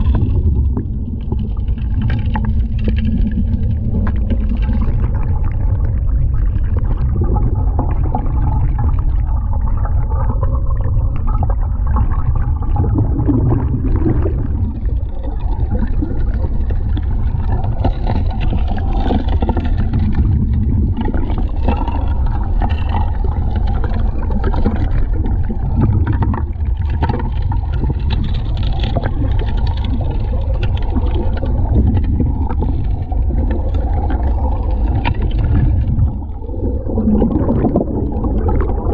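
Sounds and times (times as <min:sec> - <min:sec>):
underwater dredge rumble: 0:00.0 - 0:38.9.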